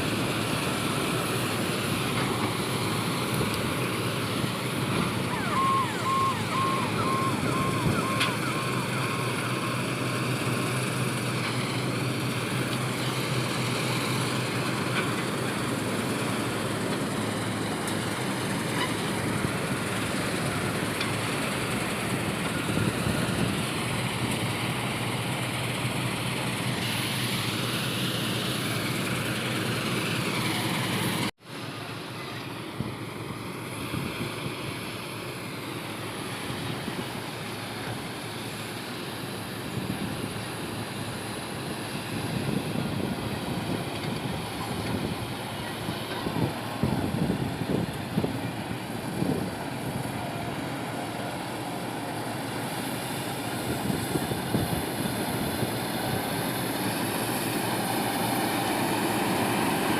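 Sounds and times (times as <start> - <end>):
diesel machinery engine drone: 0.0 - 59.9.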